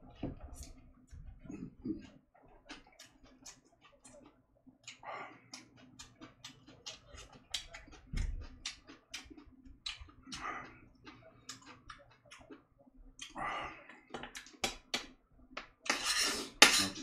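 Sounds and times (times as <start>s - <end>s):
person chewing with wet smacks: 0.1s - 15.9s.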